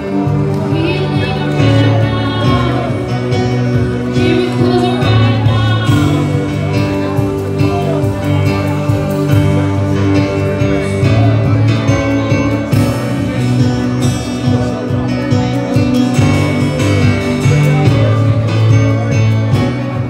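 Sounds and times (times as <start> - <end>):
keyboard: 0.0 - 20.0
person singing: 0.0 - 20.0
strummed guitar: 0.0 - 20.0.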